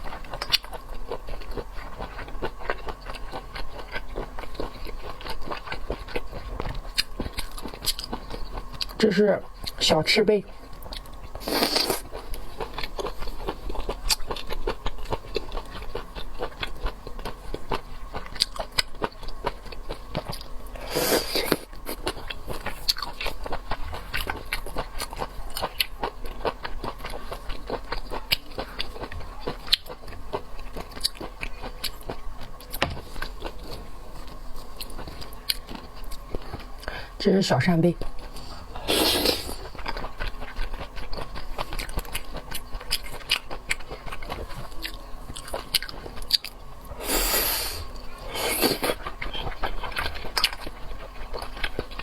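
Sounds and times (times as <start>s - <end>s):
person chewing with wet clicks: 0.0s - 37.0s, 37.9s - 46.9s, 47.8s - 52.0s.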